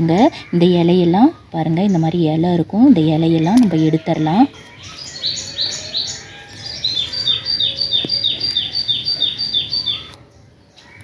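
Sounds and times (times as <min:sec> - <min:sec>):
small bird calling: 0:00.0 - 0:11.0.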